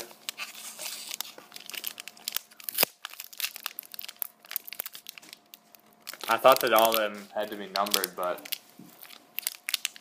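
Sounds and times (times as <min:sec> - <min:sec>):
wrapper crinkling and tearing: 0:00.0 - 0:10.0.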